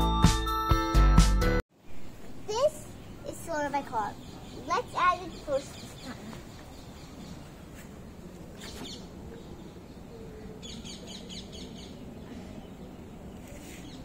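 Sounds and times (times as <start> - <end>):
low background noise: 1.7 - 14.0
small birds chirping: 2.0 - 14.0.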